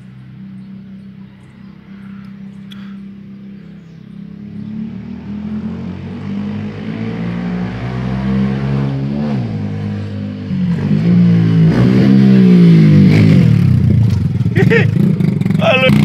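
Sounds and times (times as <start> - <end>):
motorbike engine accelerating: 0.0 - 16.0.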